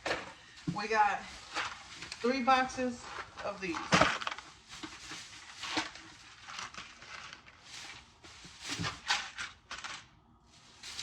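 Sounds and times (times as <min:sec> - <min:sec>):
packaging rustling: 0:01.2 - 0:11.0.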